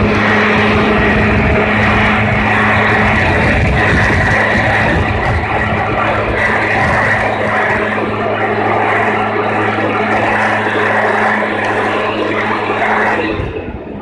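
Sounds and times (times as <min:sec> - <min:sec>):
leaf blower running: 0:00.0 - 0:14.0.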